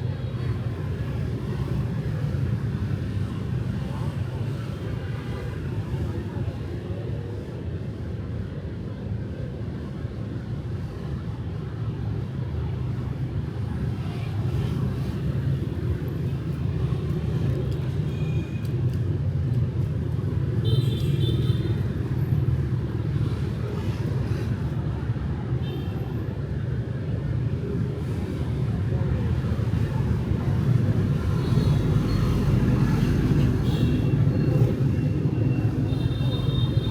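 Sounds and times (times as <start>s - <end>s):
motorbikes and cars passing: 0.0s - 7.1s, 10.8s - 36.9s.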